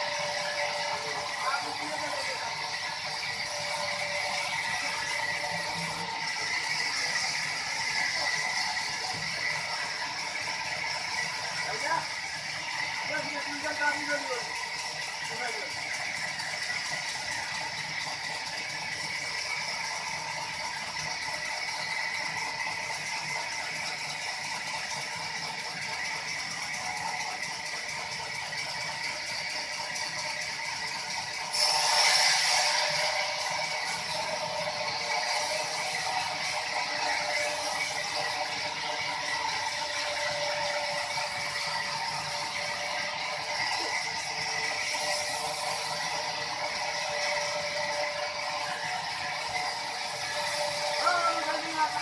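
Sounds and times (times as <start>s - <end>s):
sawmill machinery rattling: 0.0s - 52.0s.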